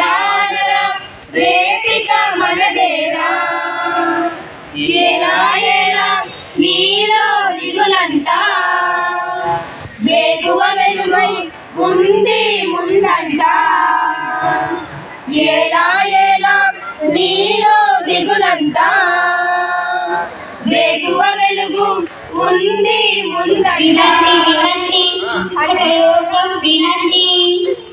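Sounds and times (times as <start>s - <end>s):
girls singing unaccompanied: 0.0s - 27.9s.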